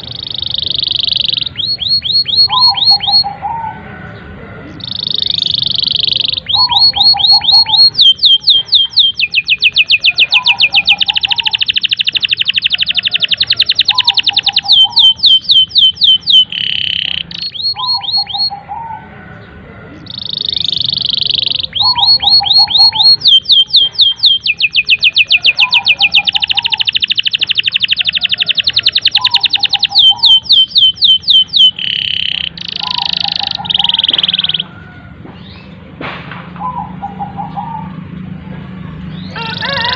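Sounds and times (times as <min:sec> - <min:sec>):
lower bird chirp: 0:00.0 - 0:35.8
canary singing trills: 0:00.0 - 0:35.9, 0:36.6 - 0:39.9.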